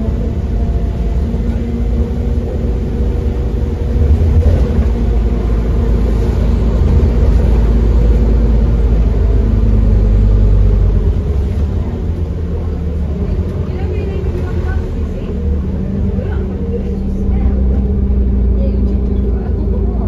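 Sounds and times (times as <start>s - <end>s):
bus diesel engine rumbling: 0.0s - 20.0s.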